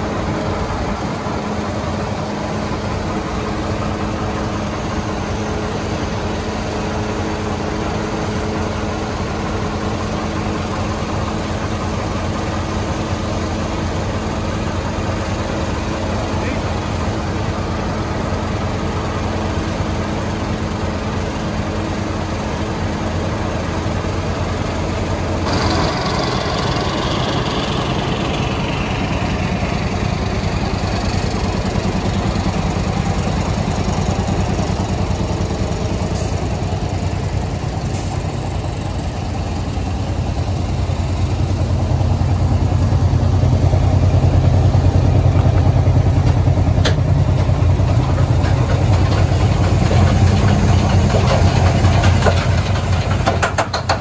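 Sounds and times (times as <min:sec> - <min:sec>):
diesel locomotive idling: 0:00.0 - 0:54.0.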